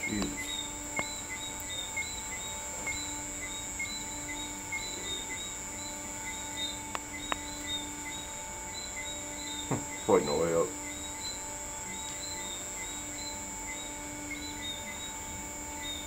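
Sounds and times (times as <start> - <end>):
insect chirp: 0.0 - 16.0
insects humming: 0.0 - 16.0.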